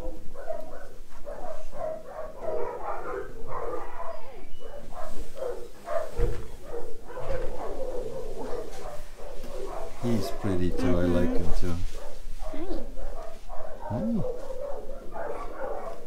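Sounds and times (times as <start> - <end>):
dogs barking: 0.0 - 16.0.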